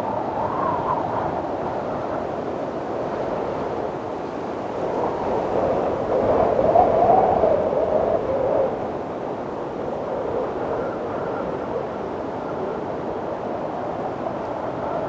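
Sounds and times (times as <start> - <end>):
wind howling in gusts: 0.0 - 15.0.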